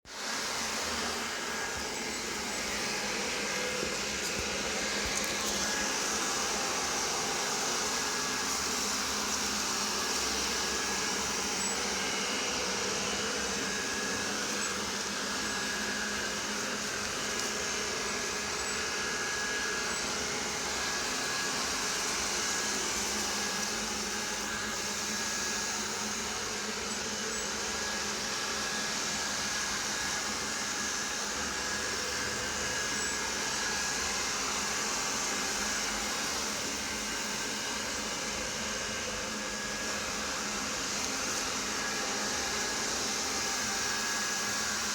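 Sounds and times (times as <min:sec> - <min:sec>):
robot vacuum whirring: 0:00.1 - 0:44.9.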